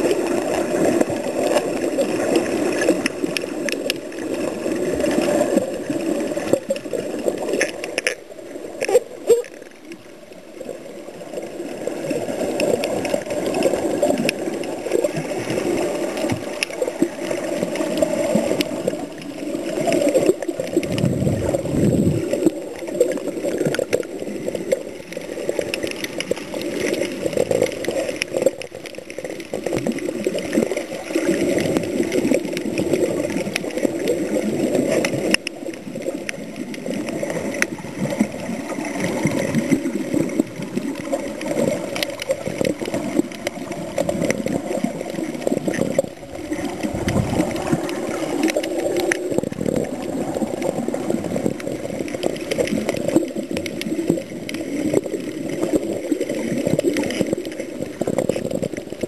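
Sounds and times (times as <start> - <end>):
muffled underwater sloshing: 0.0 - 59.0
underwater rushing surge: 0.0 - 59.0.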